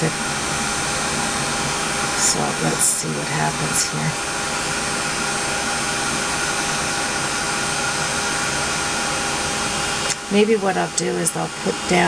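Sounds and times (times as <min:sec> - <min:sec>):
heat tool blowing whir: 0:00.0 - 0:12.0.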